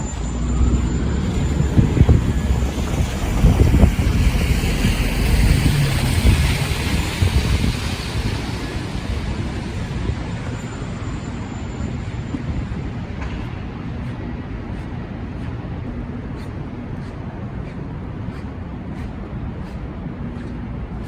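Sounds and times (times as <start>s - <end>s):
traffic rumble: 0.0s - 21.0s
vehicles passing hiss: 0.0s - 21.0s.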